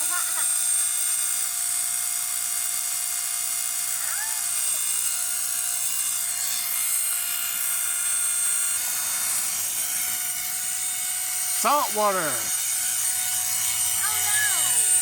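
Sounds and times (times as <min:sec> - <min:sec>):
air compressor motor whining: 0:00.0 - 0:15.0.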